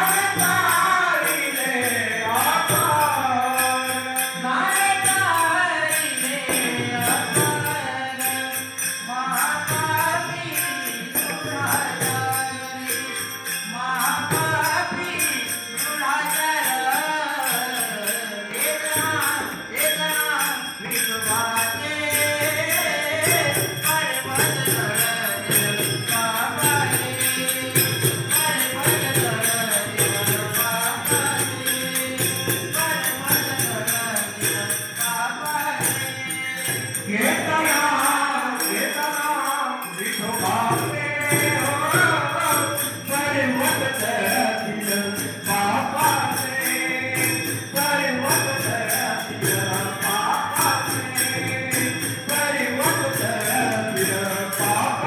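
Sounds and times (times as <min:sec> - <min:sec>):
jingling of small bells: 0:00.0 - 0:55.0.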